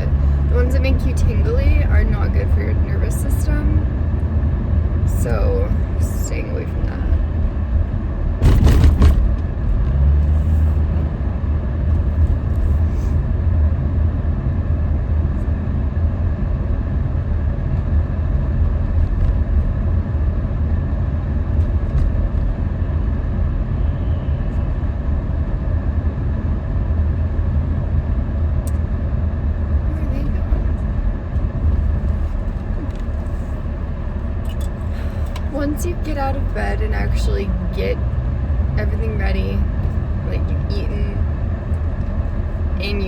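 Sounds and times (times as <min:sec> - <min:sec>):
car road rumble: 0:00.0 - 0:43.0.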